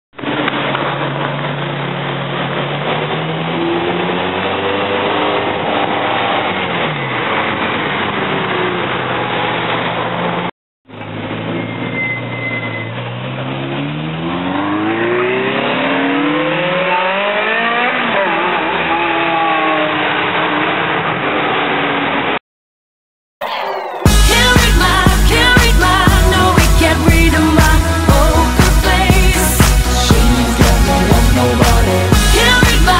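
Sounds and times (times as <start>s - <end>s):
car engines accelerating hard: 0.2s - 22.4s, 24.1s - 32.9s.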